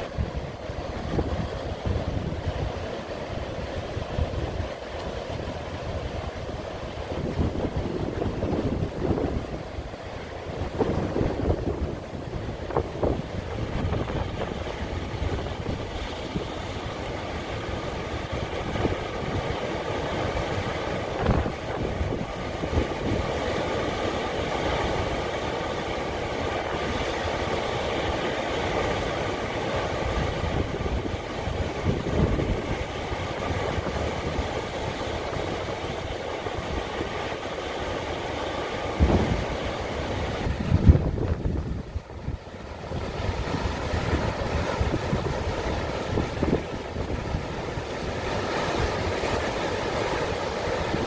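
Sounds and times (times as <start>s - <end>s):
sea waves breaking over rocks: 0.0s - 51.0s
wind buffeting microphone: 0.0s - 51.0s.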